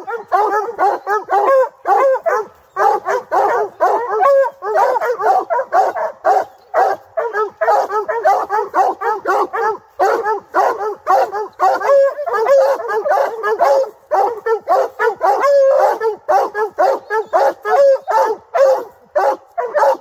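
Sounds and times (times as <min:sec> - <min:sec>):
hound barking: 0:00.0 - 0:20.0.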